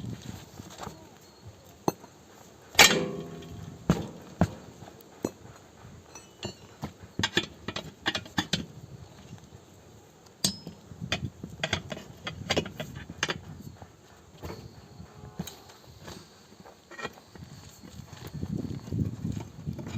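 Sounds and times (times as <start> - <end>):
metallic clinks of hand tools: 0.7 - 9.4, 10.4 - 18.9.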